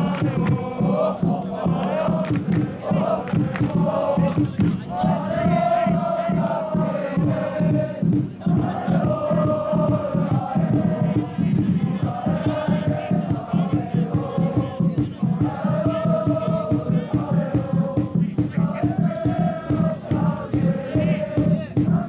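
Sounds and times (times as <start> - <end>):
crowd singing a chant: 0.0 - 22.0
steady drum beat: 0.0 - 22.0.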